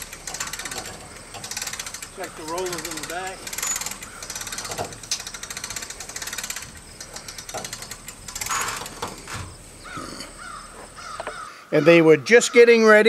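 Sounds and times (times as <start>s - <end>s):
trailer metallic rattles: 0.0s - 11.3s
hand winch ratchet clicking: 0.0s - 11.5s.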